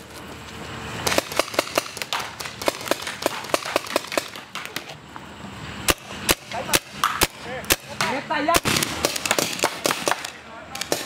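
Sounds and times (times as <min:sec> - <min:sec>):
paintball markers firing rapidly: 0:01.1 - 0:04.9, 0:05.9 - 0:11.0.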